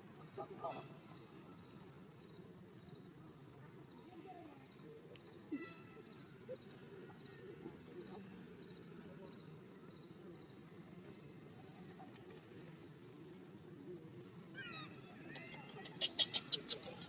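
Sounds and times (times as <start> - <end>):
faint insects: 0.0 - 17.0
low background noise: 0.0 - 17.0.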